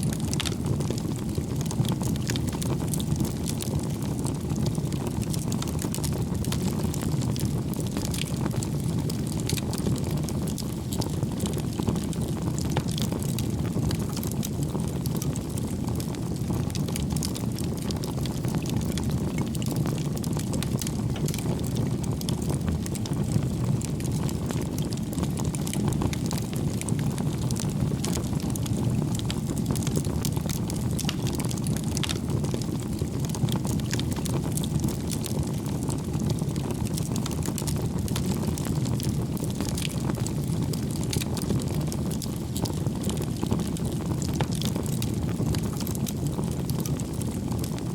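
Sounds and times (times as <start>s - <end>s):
fire rumbling: 0.0s - 47.9s
logs crackling and popping: 0.1s - 47.9s.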